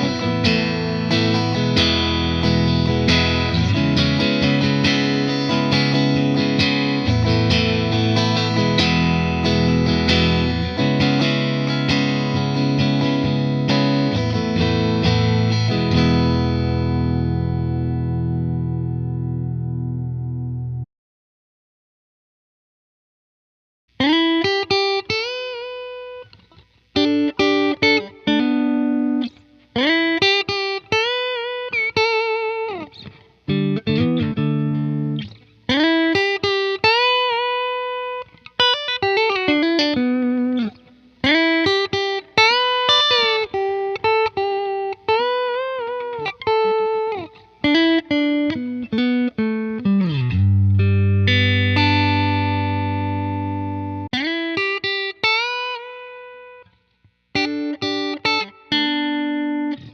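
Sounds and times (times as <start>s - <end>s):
electric guitar melodic lead: 0.0s - 20.8s, 24.0s - 59.9s
guitar chord ringing: 0.0s - 20.8s, 24.0s - 56.7s, 57.4s - 59.9s.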